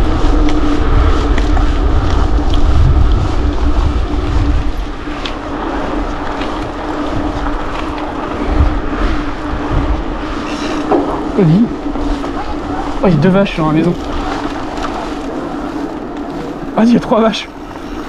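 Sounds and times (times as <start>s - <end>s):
steady hum: 0.0s - 18.0s
wind buffeting microphone: 0.0s - 18.0s.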